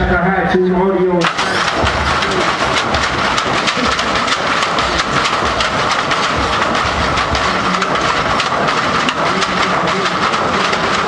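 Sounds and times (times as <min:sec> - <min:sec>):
hydraulic pumps whining: 0:01.2 - 0:11.0
suspension clicking and rattling: 0:01.2 - 0:11.0.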